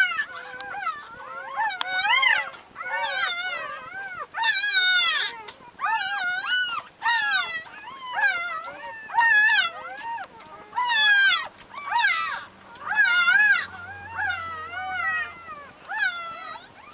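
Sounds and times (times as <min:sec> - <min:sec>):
puppies crying: 0:00.0 - 0:16.9.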